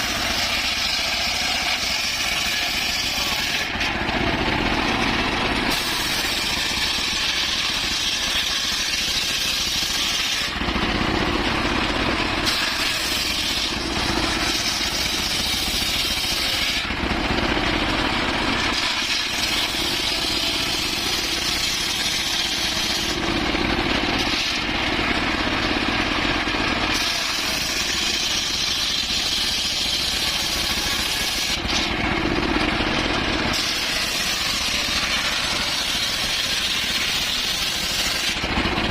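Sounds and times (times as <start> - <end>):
circular saw cutting wood: 0.0 - 38.9.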